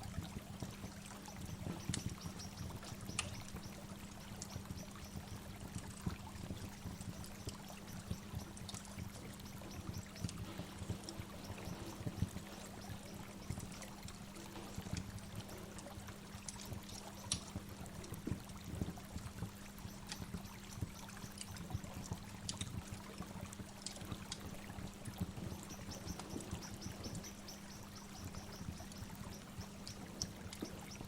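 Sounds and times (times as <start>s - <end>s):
low steady hum: 0.0s - 31.0s
waterfall running water: 0.0s - 31.0s.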